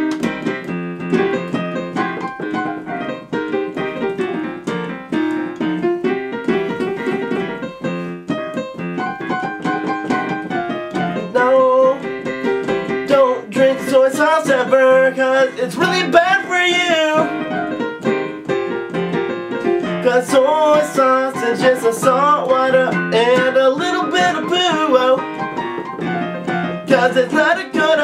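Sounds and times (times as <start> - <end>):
electronic keyboard piano sound: 0.0 - 28.0.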